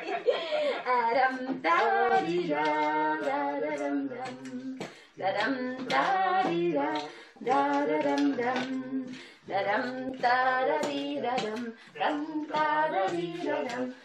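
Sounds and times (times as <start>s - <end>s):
person singing wordless tune: 0.5s - 14.0s.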